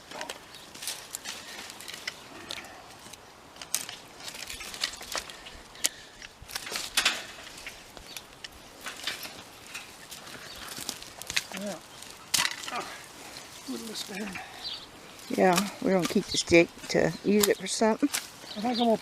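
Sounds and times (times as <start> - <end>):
branches snapping: 0.0 - 19.0.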